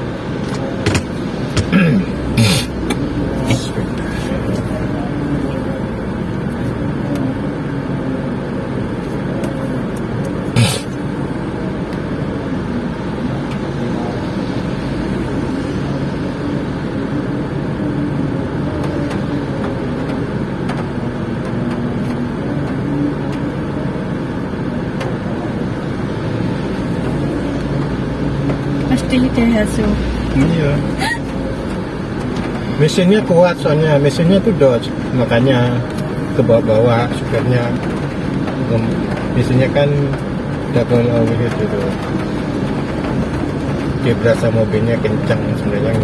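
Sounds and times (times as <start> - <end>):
car engine and road hum: 0.0 - 46.0.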